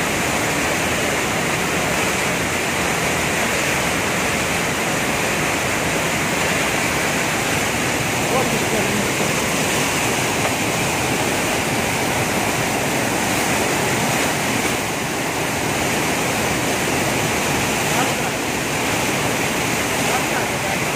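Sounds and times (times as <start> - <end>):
waterfall rushing over boulders: 0.0 - 20.9.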